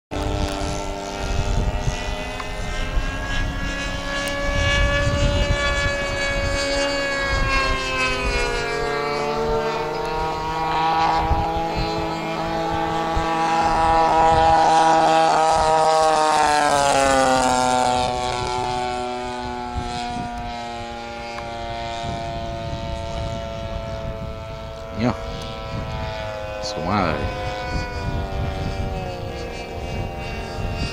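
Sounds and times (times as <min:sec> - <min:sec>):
propeller plane flying by: 0:00.1 - 0:30.9.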